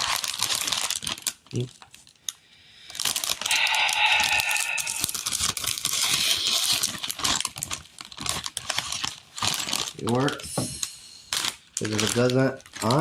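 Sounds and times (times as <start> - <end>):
plastic bag rustling and crinkling: 0.0 - 2.2, 2.9 - 13.0.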